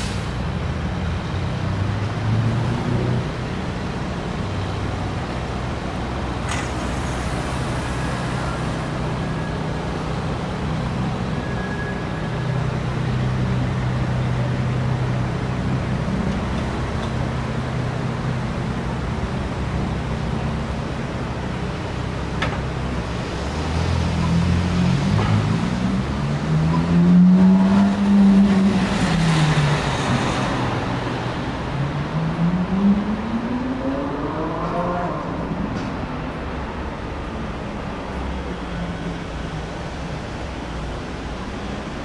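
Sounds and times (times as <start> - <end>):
vehicle engines humming: 0.0 - 42.0.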